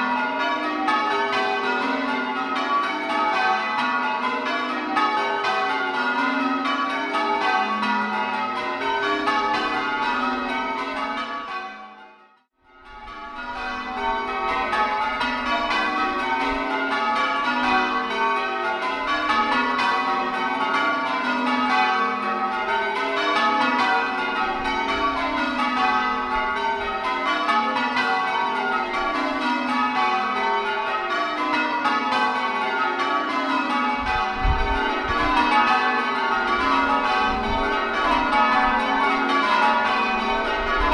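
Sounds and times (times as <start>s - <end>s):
church bells change ringing: 0.0s - 40.9s.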